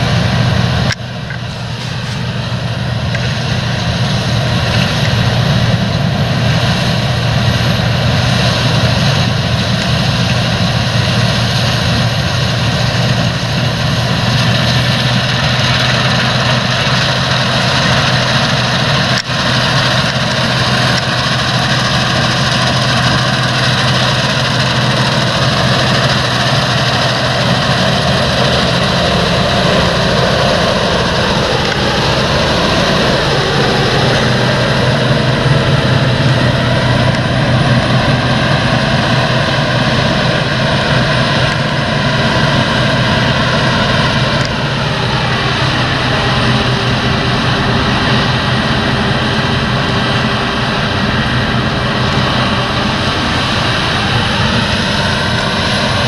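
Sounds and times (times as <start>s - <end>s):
combine harvester engine drone: 0.0s - 56.0s
threshing machinery noise: 0.0s - 56.0s.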